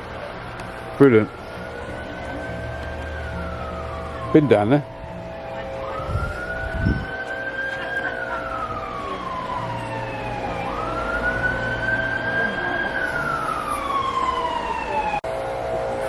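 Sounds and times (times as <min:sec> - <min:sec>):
emergency siren wailing: 0:00.2 - 0:16.0.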